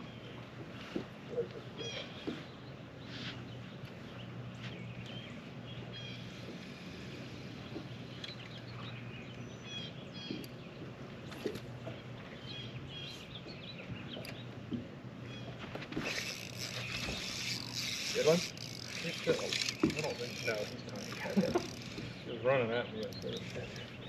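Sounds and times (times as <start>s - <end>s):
songbirds chirping: 0.0s - 24.0s
steady low hum: 0.0s - 24.0s.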